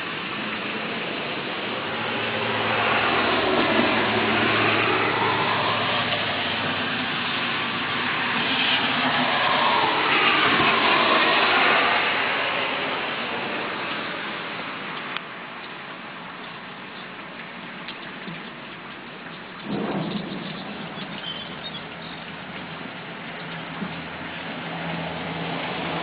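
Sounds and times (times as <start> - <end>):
falling rain: 0.0 - 26.0
tyres hissing on wet road: 0.0 - 26.0.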